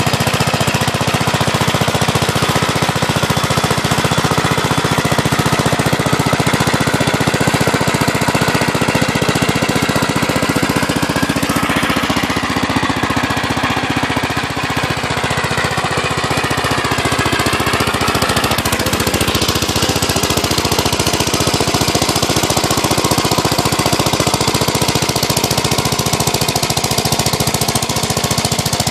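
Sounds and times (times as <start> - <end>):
snowblower throwing snow: 0.0 - 28.9
tractor engine running under load: 0.0 - 28.9.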